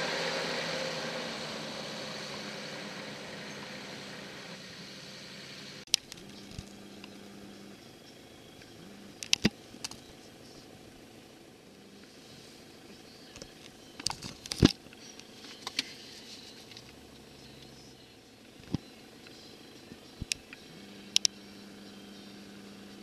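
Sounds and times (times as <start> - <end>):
faint engines running: 0.0 - 23.0.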